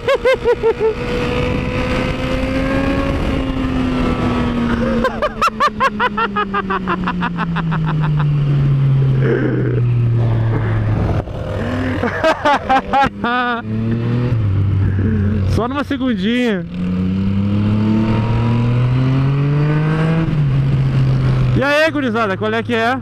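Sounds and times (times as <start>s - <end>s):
motorcycle engine at speed: 0.0s - 23.0s.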